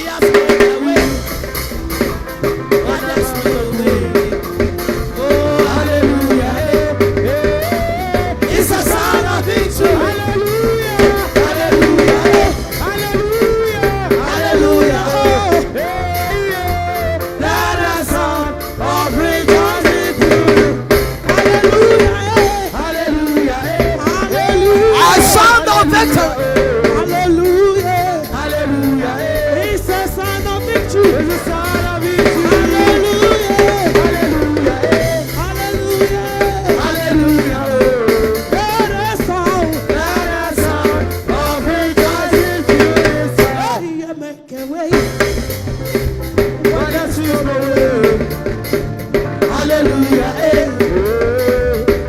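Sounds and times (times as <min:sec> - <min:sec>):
bass line: 0:00.0 - 0:43.9, 0:44.9 - 0:52.0
people singing: 0:00.0 - 0:45.5, 0:46.1 - 0:52.0
drum kit: 0:00.0 - 0:52.0.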